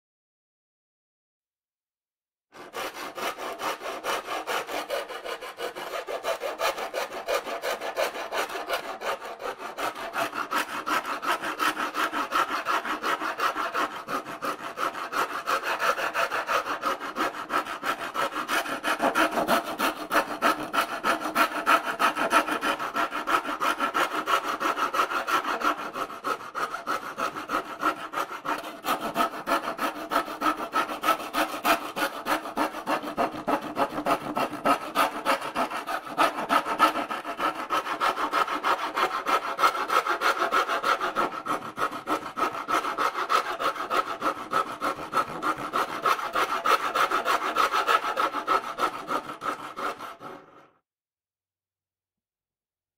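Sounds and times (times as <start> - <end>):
rasp scraping back and forth: 2.5 - 50.9.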